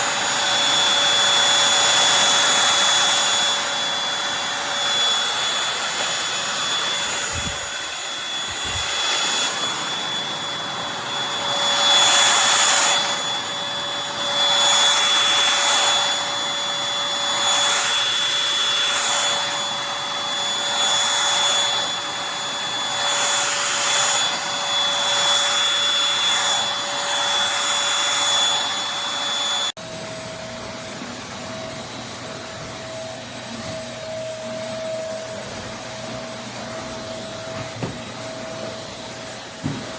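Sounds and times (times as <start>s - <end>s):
stick vacuum cleaner running: 0.0s - 39.9s.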